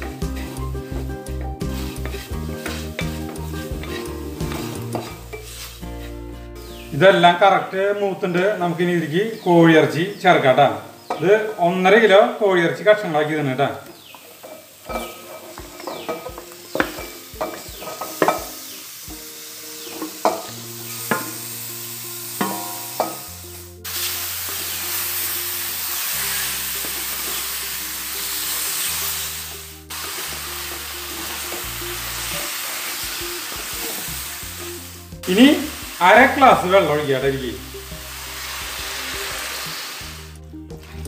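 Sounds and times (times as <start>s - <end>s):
loud sizzling in oil: 0.0s - 7.4s, 10.8s - 41.0s
background music with low bass: 0.0s - 12.3s, 14.8s - 41.0s.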